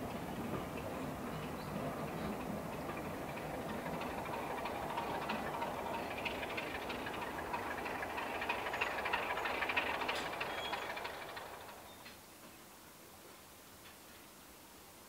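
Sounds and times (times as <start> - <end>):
rapid clicking of wheels on track: 0.0 - 12.2
train rumbling and hissing: 0.0 - 15.0.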